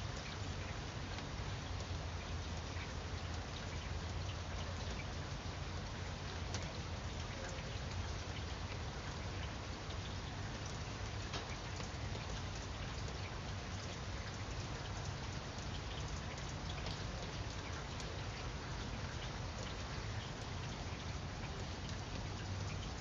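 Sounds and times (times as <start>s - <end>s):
light rain: 0.0s - 23.0s
raindrop ticks: 0.0s - 23.0s.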